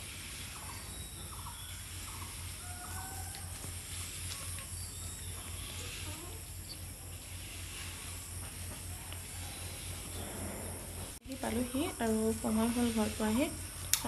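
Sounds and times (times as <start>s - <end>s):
low pulsing hum: 0.0s - 14.0s.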